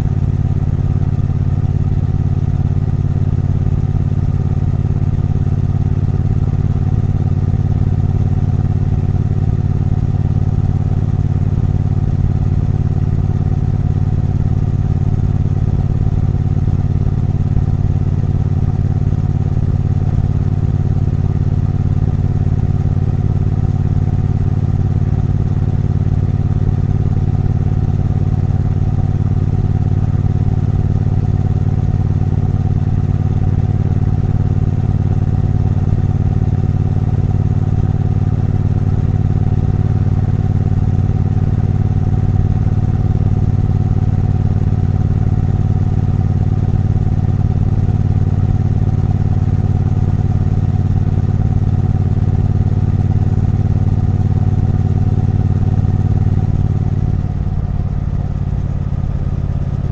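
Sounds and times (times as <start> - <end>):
motorcycle engine running steadily: 0.0 - 59.9.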